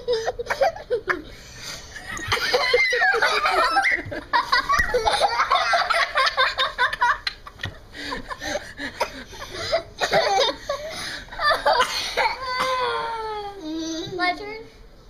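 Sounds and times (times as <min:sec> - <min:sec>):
girls giggling and laughing: 0:00.0 - 0:13.6.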